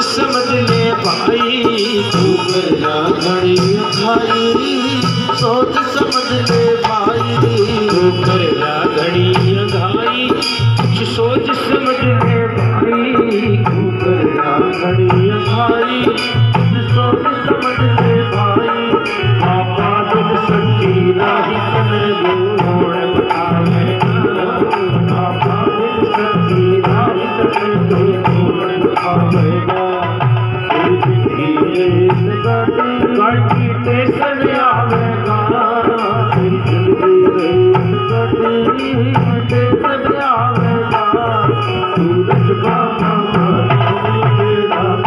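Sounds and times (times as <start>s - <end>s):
hand drum rhythm: 0.0s - 45.0s
keyboard melody: 0.0s - 45.0s.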